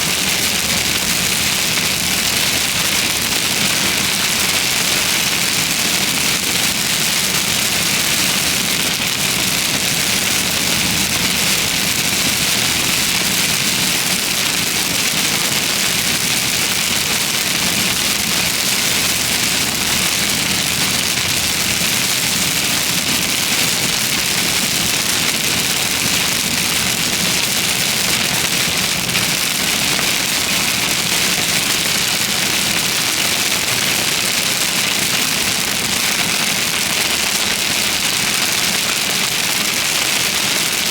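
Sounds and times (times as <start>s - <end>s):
heavy rain on vehicle: 0.0s - 40.9s.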